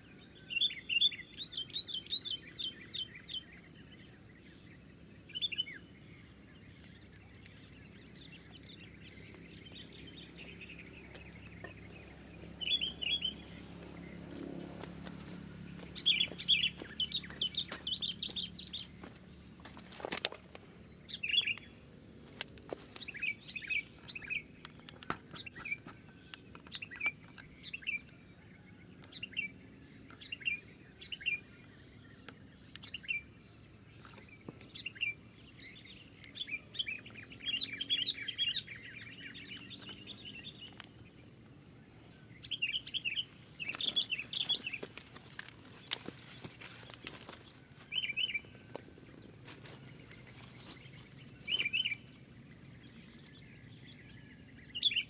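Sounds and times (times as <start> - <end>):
bulbuls chirping: 0.0 - 28.2, 29.1 - 55.0.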